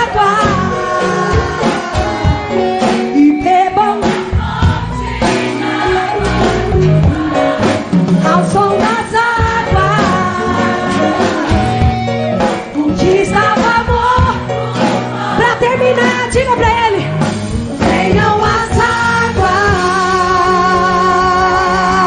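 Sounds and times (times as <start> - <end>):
group singing: 0.0 - 16.4, 17.7 - 22.0
live band with drums: 0.0 - 22.0.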